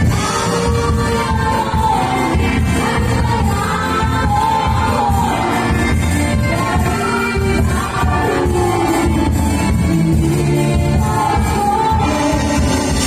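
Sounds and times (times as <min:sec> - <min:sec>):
disco dance music: 0:00.0 - 0:13.0
person singing: 0:00.0 - 0:13.0.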